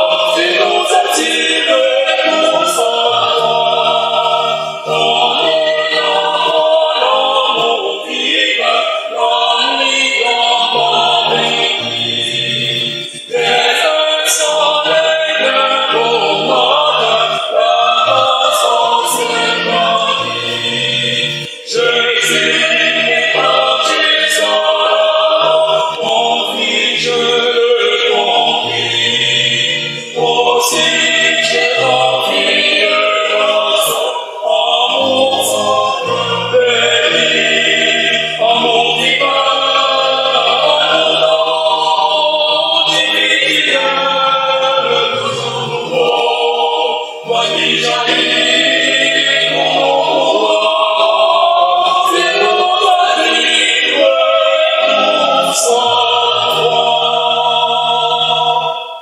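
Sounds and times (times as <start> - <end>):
church choir singing a hymn: 0.0 - 59.0.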